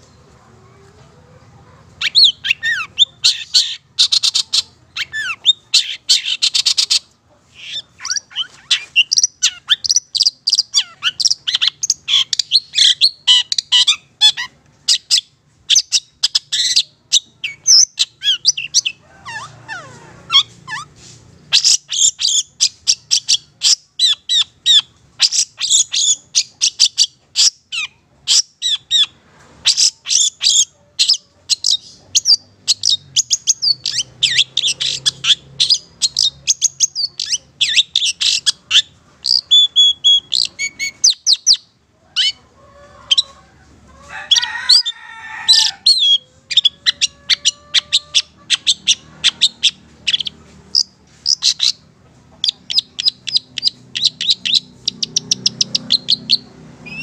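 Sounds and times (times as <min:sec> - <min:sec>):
bird chattering song: 0:01.8 - 0:42.4, 0:45.5 - 0:57.0.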